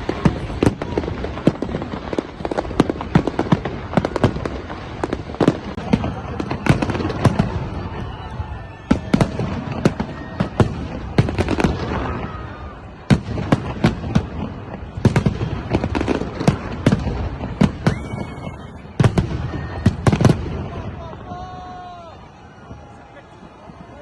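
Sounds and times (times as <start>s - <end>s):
distant explosions rumbling: 0.0s - 24.0s
firework bangs and crackles: 0.0s - 24.0s.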